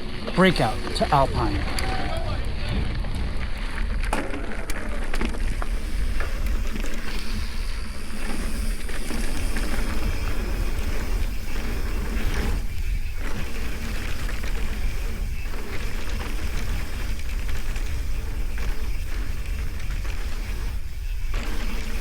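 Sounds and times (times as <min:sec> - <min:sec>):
bike clicks and rattles: 0:00.0 - 0:22.0
bike tyres rolling on rough ground: 0:00.0 - 0:22.0
wind on microphone: 0:00.7 - 0:22.0.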